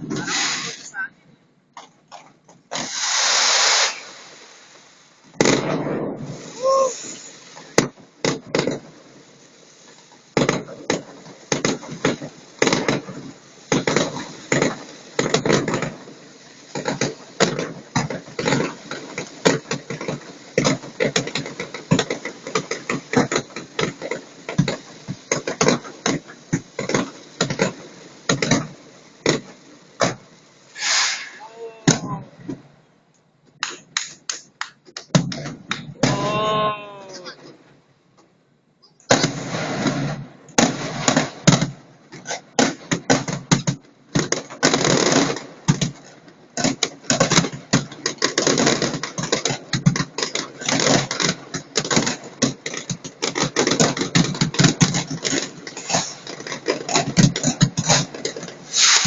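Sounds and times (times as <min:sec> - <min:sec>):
fireworks bangs and cracks: 0:00.0 - 0:01.1, 0:01.7 - 0:32.8, 0:33.5 - 0:38.2, 0:39.0 - 0:59.0.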